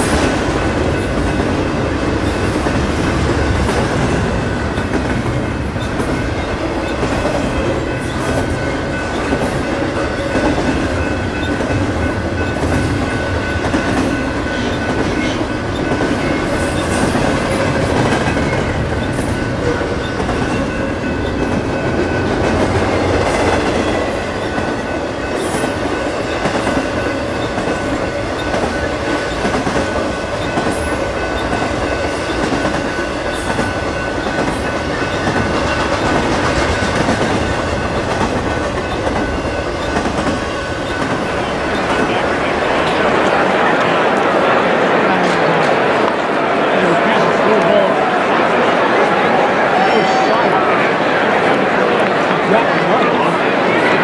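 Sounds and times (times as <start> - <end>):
train wheels rumbling on rail: 0.0 - 49.8.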